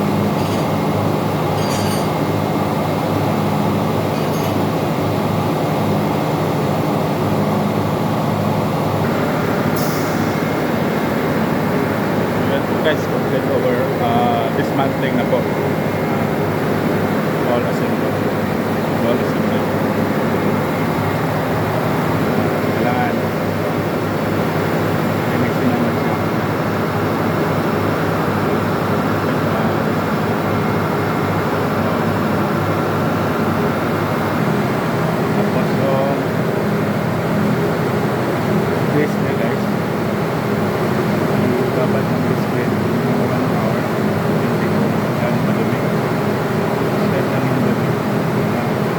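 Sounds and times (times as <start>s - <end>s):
engine room machinery drone: 0.0s - 48.9s.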